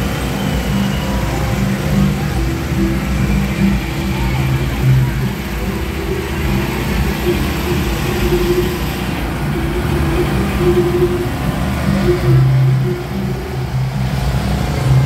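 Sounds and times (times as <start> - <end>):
portable generator running: 0.0 - 15.0.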